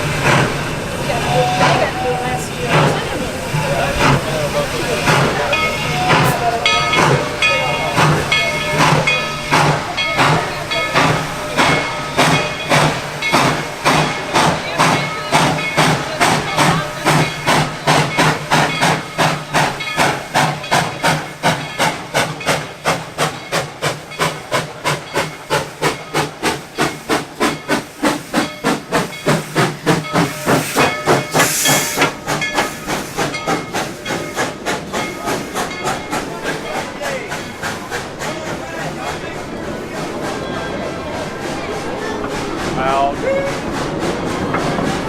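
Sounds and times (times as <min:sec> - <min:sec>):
steam hissing: 0:00.0 - 0:45.0
steam locomotive chuffing: 0:00.0 - 0:45.0.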